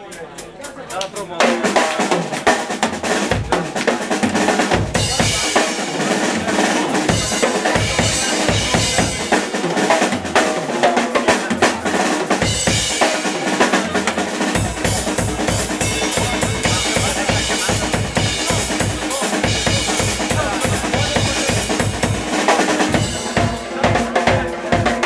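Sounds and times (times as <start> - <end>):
drum kit: 0.0 - 25.0
funk band playing: 0.0 - 25.0.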